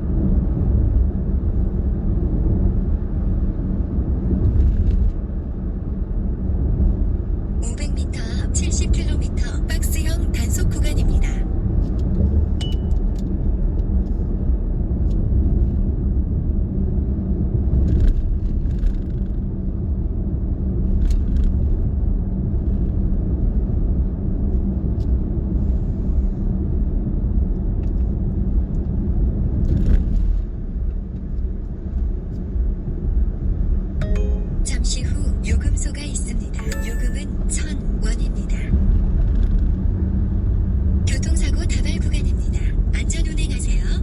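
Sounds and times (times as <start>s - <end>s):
car road and engine rumble: 0.0s - 34.0s, 37.2s - 44.0s.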